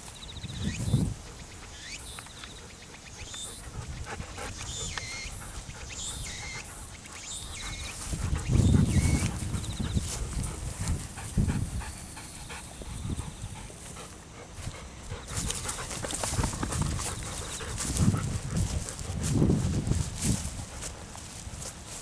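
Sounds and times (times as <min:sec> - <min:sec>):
wind buffeting microphone: 0:00.3 - 0:01.5, 0:03.6 - 0:22.0
dog panting: 0:02.4 - 0:22.0.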